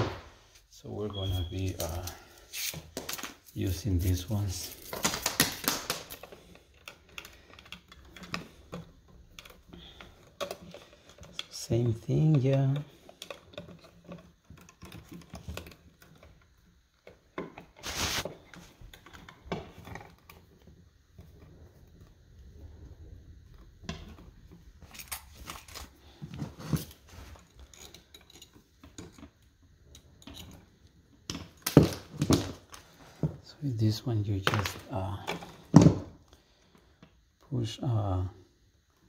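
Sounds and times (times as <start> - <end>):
wires being handled: 0.4 - 38.2.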